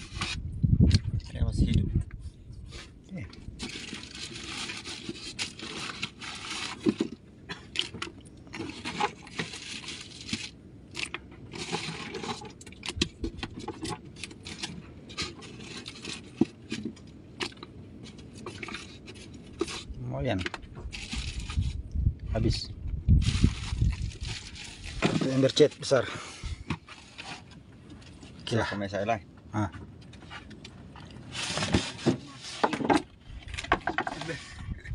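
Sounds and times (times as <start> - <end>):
wet fish scraping and rustling: 0.0 - 0.5, 2.2 - 20.0, 20.6 - 21.9, 23.1 - 28.7, 30.1 - 34.9.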